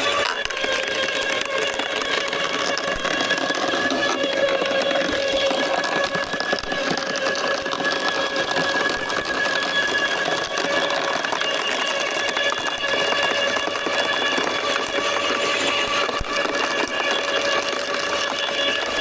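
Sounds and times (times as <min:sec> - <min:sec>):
electric wood chipper running: 0:00.0 - 0:19.0.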